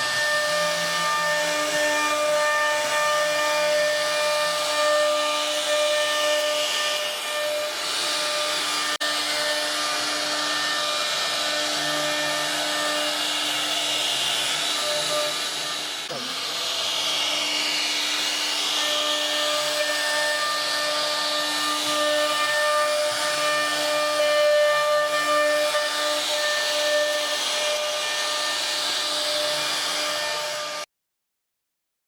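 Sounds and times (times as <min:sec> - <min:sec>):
hiss of cutting noise: 0:00.0 - 0:30.8
router spindle whine: 0:00.0 - 0:30.8.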